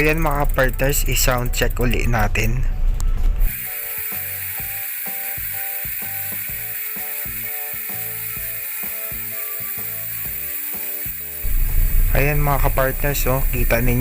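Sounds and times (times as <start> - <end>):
bicycle hub ratcheting buzz: 0.0 - 2.6, 3.4 - 14.0.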